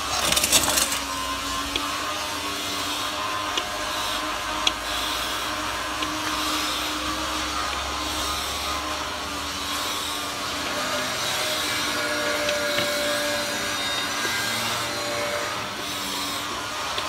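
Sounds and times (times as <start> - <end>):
glass cutter scratching glass: 0.0 - 17.0.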